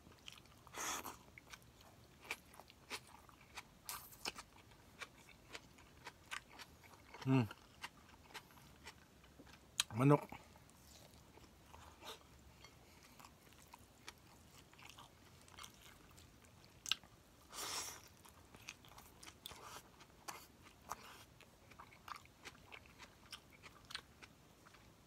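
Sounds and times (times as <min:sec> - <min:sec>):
faint wet chewing: 0:00.1 - 0:25.0.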